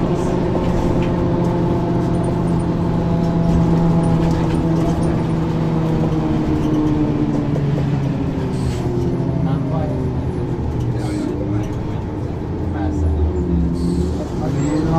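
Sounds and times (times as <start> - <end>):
bus diesel engine running: 0.0 - 14.9.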